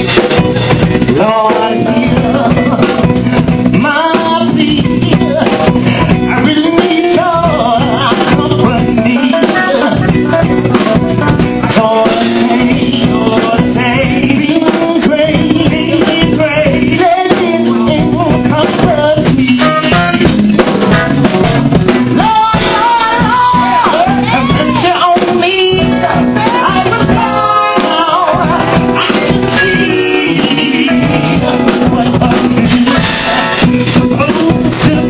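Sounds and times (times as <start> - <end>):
live band music: 0.0 - 35.0
person singing into microphone: 0.0 - 35.0.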